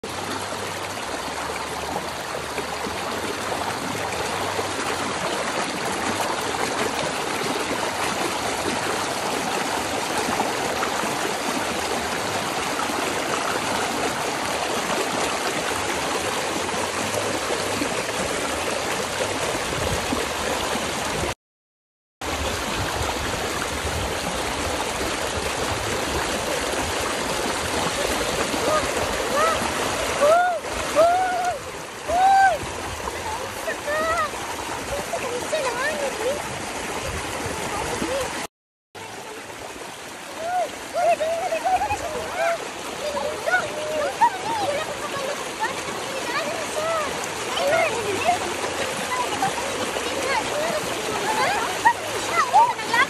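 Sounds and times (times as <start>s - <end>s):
river water splashing: 0.0s - 21.4s, 22.2s - 53.0s.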